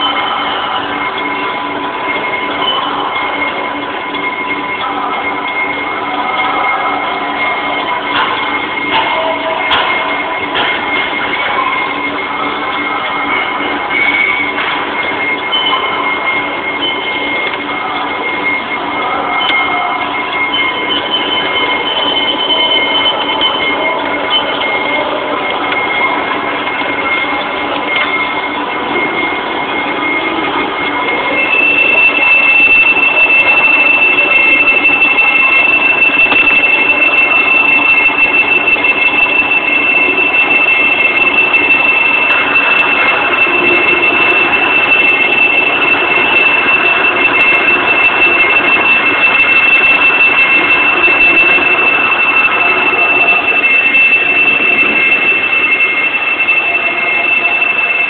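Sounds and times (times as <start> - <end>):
lathe high whine: 0.0 - 58.0.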